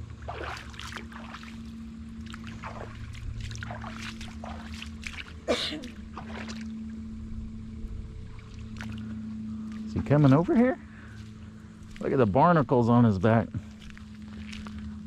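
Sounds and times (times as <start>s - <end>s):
low motor hum: 0.0s - 15.0s
water splashing: 0.0s - 15.0s.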